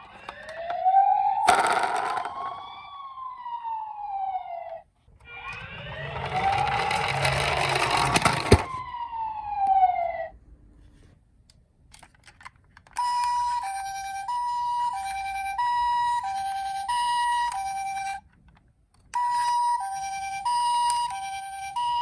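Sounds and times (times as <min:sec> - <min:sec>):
electronic two-tone siren: 0:00.0 - 0:10.4, 0:13.0 - 0:18.2, 0:19.2 - 0:22.0.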